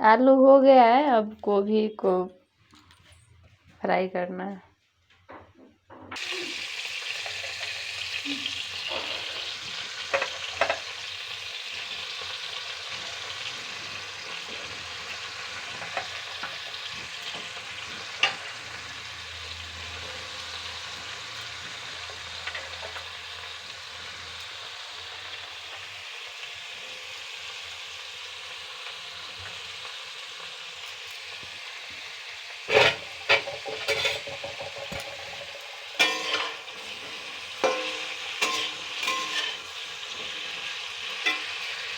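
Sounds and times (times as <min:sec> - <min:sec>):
vegetables sizzling in hot oil: 0:06.2 - 0:41.9.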